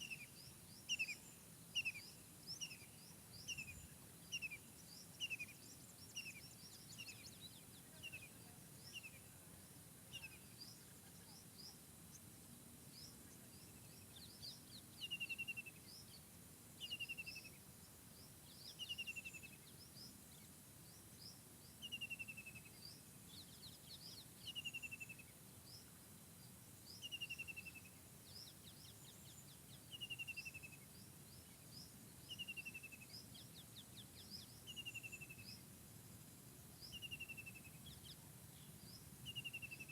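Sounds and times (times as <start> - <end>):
low background hiss: 0.0 - 39.9.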